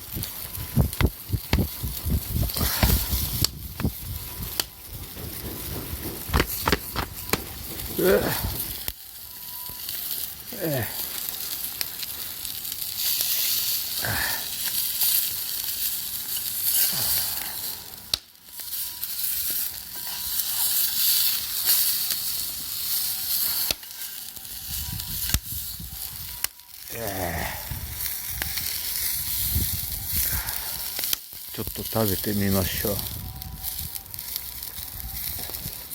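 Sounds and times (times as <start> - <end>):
fire crackles and pops: 0.0 - 35.9
food sizzling over campfire: 0.0 - 35.9.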